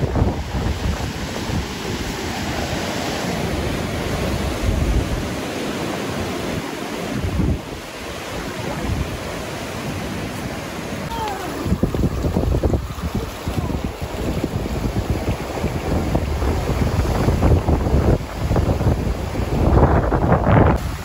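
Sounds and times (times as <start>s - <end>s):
waterfall rushing: 0.0s - 21.0s
wind buffeting microphone: 0.0s - 21.0s.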